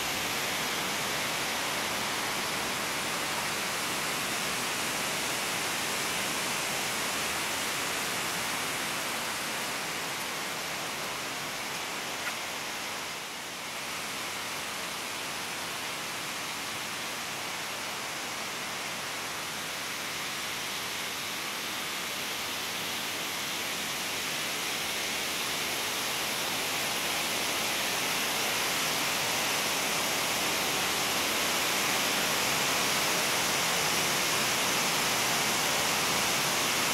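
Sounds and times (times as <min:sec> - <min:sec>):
stream rushing over bedrock: 0:00.0 - 0:36.9.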